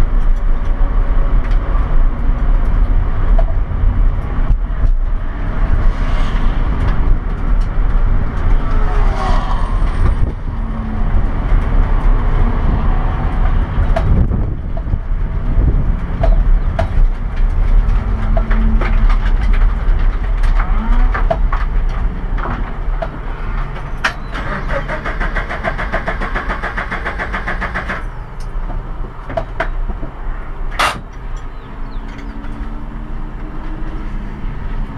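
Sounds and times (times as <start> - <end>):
knocks and rattles: 0.0 - 32.8.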